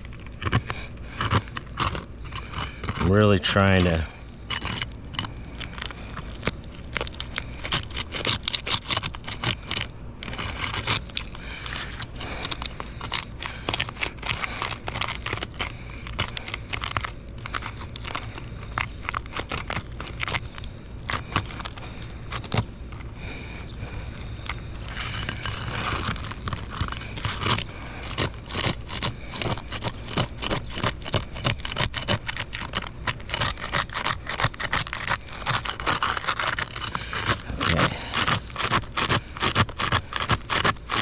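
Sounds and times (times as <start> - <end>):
roof shingle crackling and tearing: 0.0 - 41.0.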